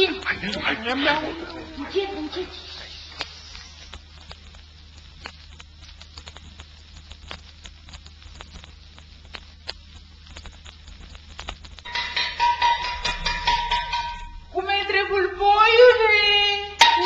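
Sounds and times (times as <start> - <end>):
steady low hum: 0.0 - 16.8
vinyl record clicks and crackles: 0.0 - 17.0.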